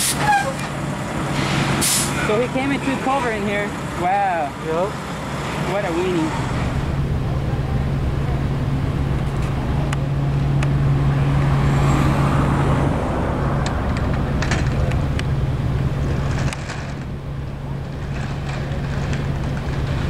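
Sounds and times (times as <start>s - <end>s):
traffic noise: 0.0s - 20.0s
vehicle passing: 1.3s - 20.0s.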